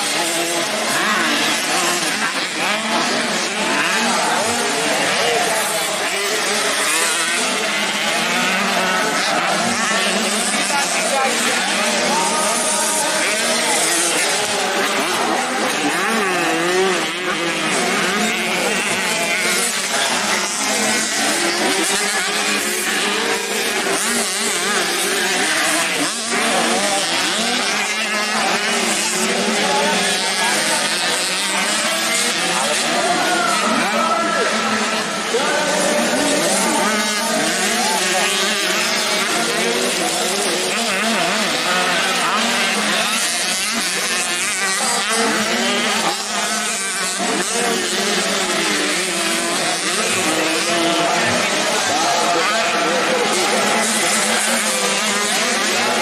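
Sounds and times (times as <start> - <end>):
motorcycle engines racing: 0.0 - 56.0.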